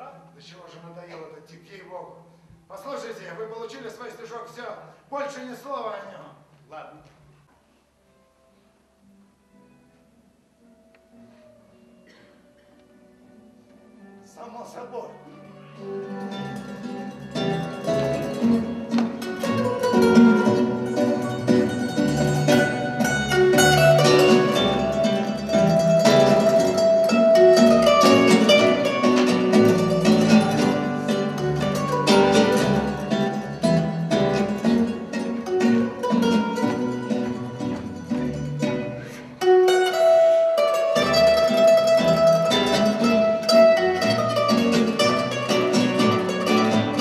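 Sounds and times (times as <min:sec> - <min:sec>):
plucked string instrument music: 0:08.5 - 0:47.0.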